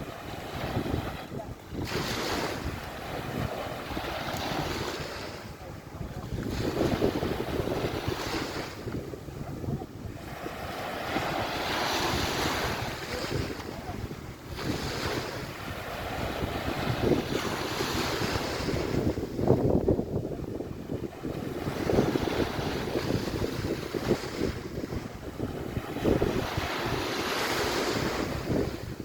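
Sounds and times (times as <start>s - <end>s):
waves washing onto beach: 0.0s - 29.0s
wind buffeting microphone: 0.0s - 29.0s.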